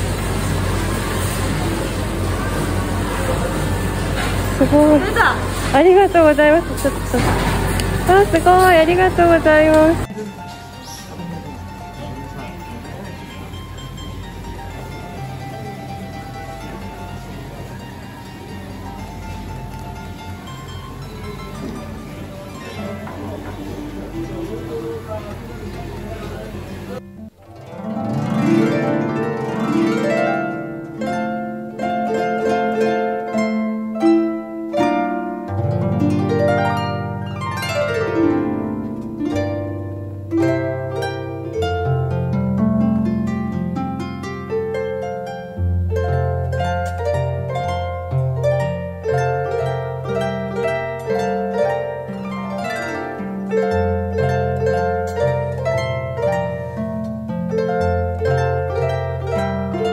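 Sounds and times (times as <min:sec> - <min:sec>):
solo harp music: 0:00.0 - 0:59.9.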